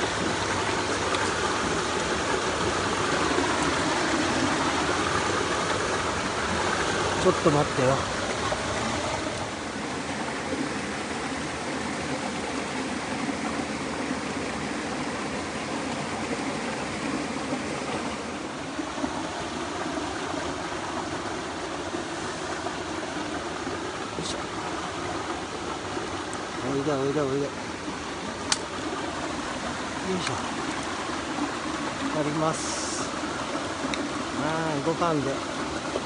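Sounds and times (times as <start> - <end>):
stream flowing: 0.0 - 36.0.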